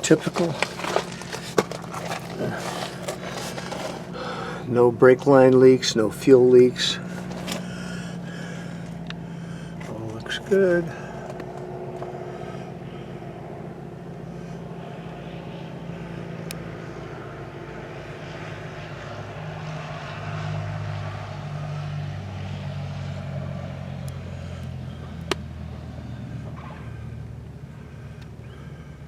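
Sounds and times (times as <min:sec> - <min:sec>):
distant propeller aircraft engine: 0:00.0 - 0:29.0.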